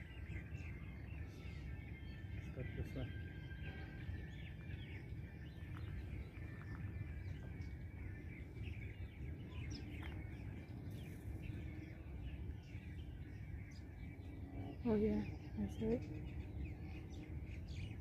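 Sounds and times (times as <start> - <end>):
low background rumble: 0.0 - 18.0
small birds chirping: 0.0 - 18.0.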